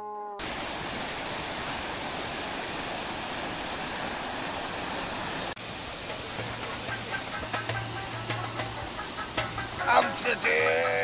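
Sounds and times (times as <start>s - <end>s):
white-water rapids roaring: 0.4s - 11.0s.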